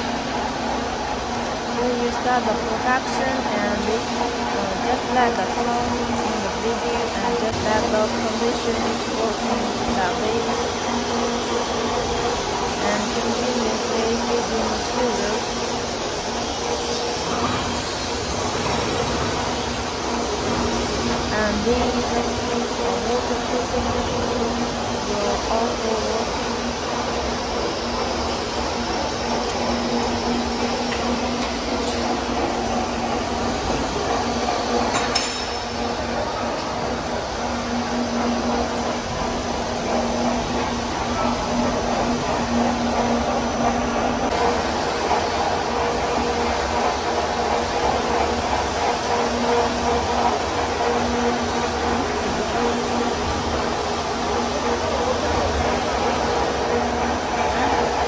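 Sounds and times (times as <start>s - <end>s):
constant hum: 0.0s - 58.0s
furnace machinery whirring: 0.0s - 58.0s.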